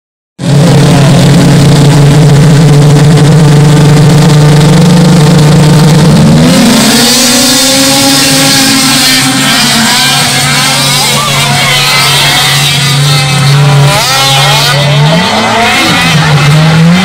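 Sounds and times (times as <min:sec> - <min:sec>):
rush of track and snow: 0:00.4 - 0:17.0
snowmobile engines revving: 0:00.4 - 0:17.0.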